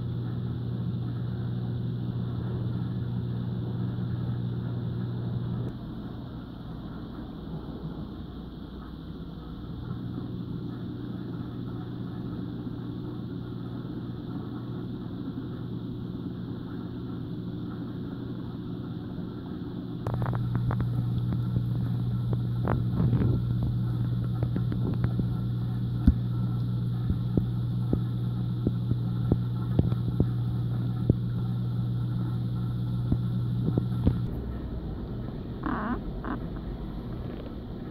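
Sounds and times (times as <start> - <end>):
low electrical hum of pumps: 0.0 - 37.9.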